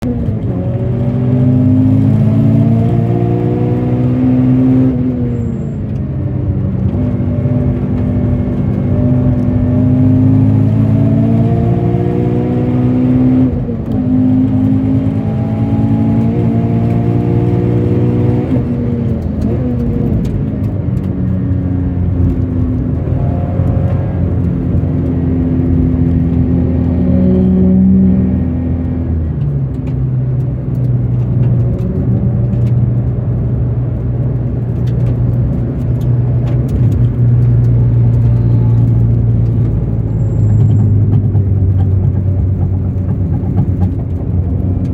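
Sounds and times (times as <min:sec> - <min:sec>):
car engine accelerating through gears: 0:00.0 - 0:44.9.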